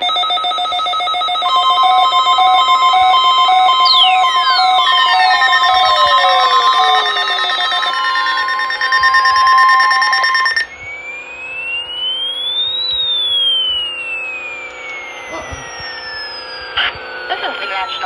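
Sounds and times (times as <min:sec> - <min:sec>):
electronic tones: 0:00.0 - 0:18.0
falling pitch glides: 0:00.0 - 0:18.0
rising and falling electronic tone: 0:00.0 - 0:18.0
steady alarm tone: 0:00.0 - 0:18.0.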